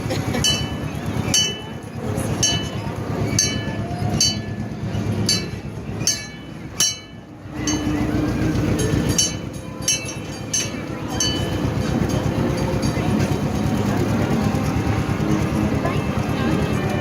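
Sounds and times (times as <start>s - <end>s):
low rumble of ride motor: 0.0s - 17.0s
bell clanging: 0.4s - 17.0s.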